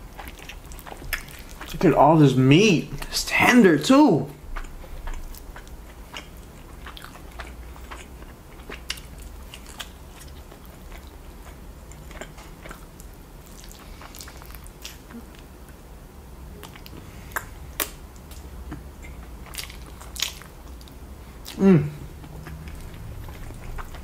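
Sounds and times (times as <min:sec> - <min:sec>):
man chewing and biting: 0:00.0 - 0:02.1, 0:04.4 - 0:15.8, 0:16.5 - 0:24.0.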